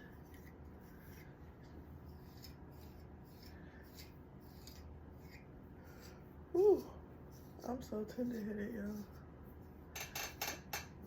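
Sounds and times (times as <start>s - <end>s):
comb scratching through wet hair: 0.0s - 9.8s.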